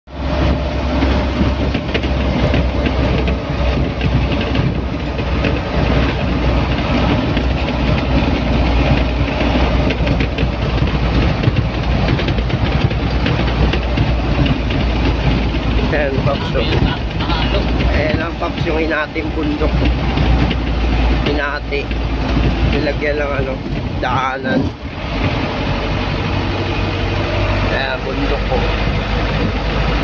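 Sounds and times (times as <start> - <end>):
engine and road rumble: 0.0 - 30.0
light rattles: 0.4 - 27.3.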